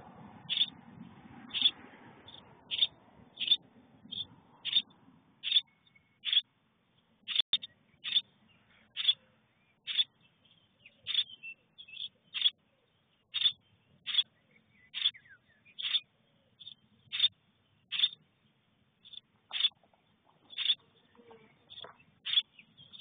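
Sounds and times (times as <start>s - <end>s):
young songbird calling: 0.4s - 0.8s, 1.5s - 23.0s.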